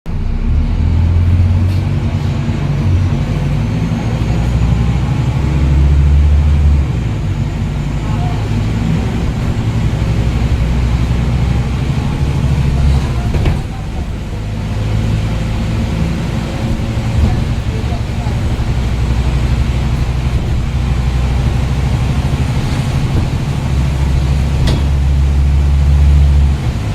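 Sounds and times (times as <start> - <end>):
bus diesel engine under load: 0.0 - 26.9.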